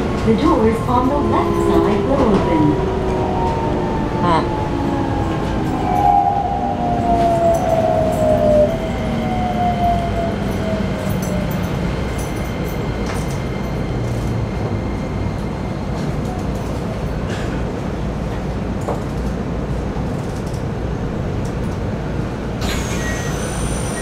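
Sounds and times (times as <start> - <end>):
train inverter whining: 0.0 - 19.0, 21.0 - 24.0
train wheels rumbling on track: 0.0 - 24.0.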